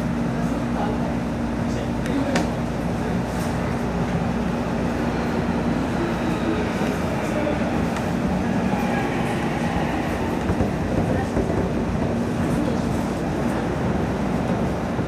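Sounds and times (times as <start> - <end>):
train wheels rumbling on rails: 2.1 - 15.0.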